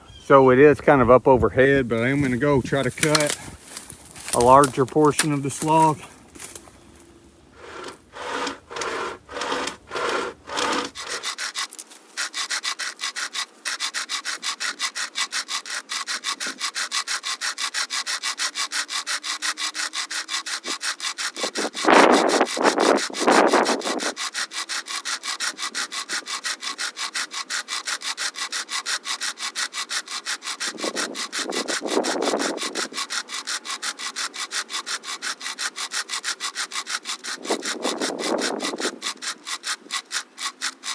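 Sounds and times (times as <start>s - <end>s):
chain saw rasping through log: 1.9s - 40.9s.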